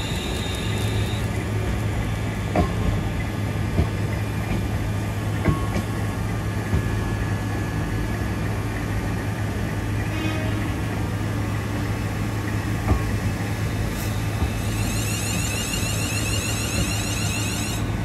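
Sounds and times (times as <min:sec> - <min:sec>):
train wheels knocking on track: 0:00.0 - 0:10.1, 0:10.8 - 0:18.0
electric train humming: 0:00.0 - 0:18.0.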